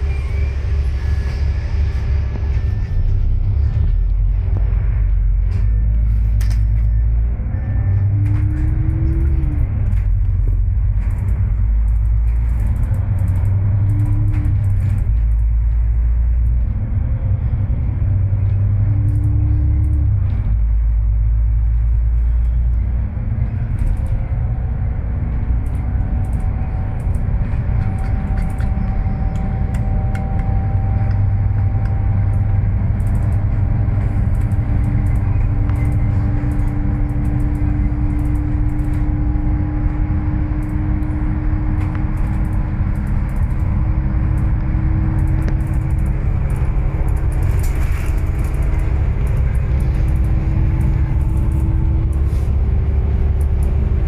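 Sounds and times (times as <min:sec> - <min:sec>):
bus engine and road rumble: 0:00.0 - 0:54.0
bus whine: 0:00.0 - 0:54.0.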